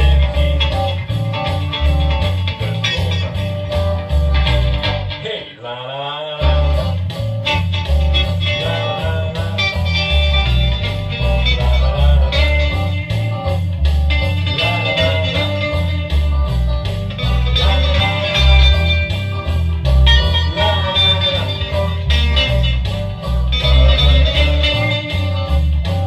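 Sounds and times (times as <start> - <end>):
guitar over bass beat: 0.0 - 5.6, 6.3 - 26.0.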